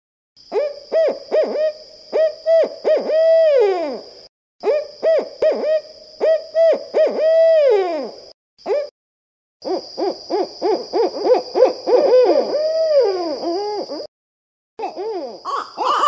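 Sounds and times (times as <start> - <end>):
owl hooting: 0.5 - 8.9, 9.6 - 14.1, 14.8 - 16.0.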